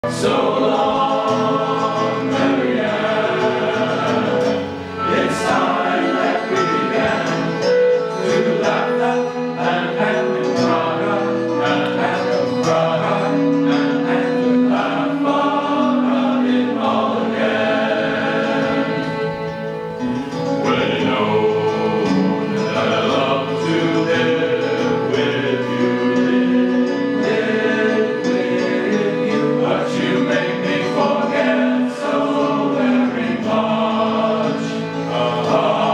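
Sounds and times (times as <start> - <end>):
choir singing in harmony: 0.0 - 35.9.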